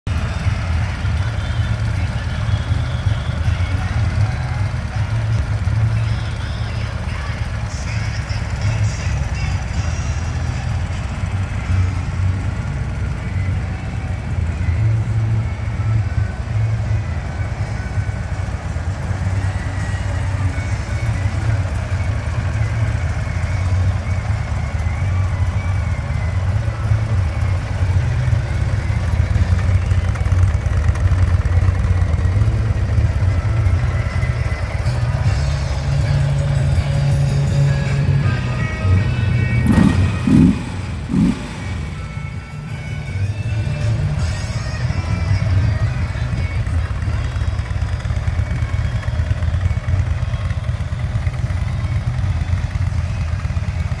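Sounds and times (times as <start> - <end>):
motorcycle engine running steadily: 0.0 - 54.0.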